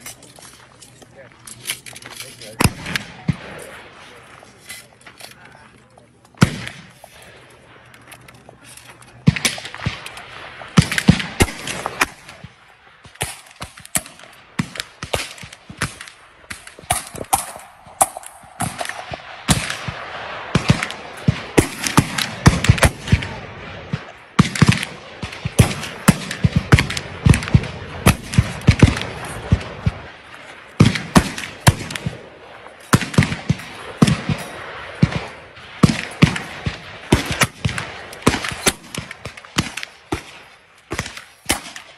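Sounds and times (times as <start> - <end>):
muskets firing: 2.4 - 4.6, 6.4 - 41.9.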